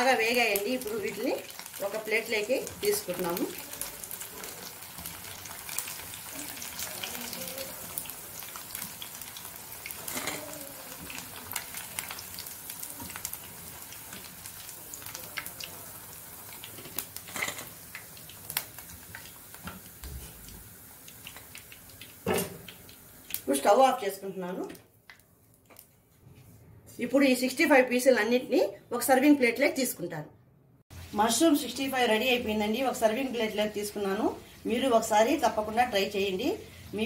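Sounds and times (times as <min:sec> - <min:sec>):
food sizzling in hot oil: 0:00.0 - 0:24.2, 0:30.9 - 0:37.0.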